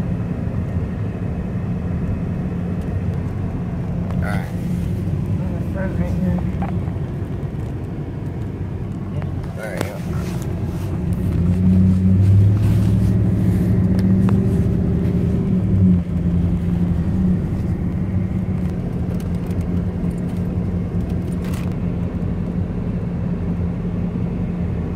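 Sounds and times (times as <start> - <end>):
car engine hum: 0.0 - 24.9
road noise: 0.0 - 24.9.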